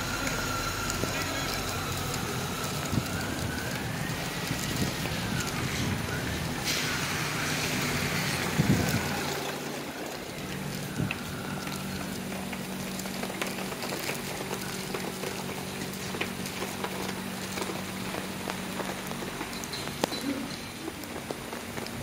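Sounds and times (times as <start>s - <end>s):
rain falling on a flooded street: 0.0s - 22.0s.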